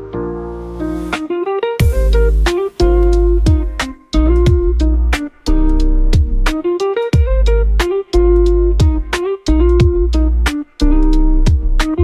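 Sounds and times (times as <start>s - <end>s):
plucked guitar music with bass: 0.0s - 12.0s
sharp beat: 1.8s - 12.0s.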